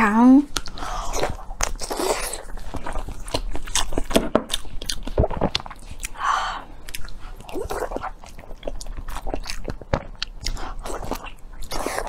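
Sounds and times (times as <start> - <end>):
chewing and biting sausage: 0.5 - 12.0.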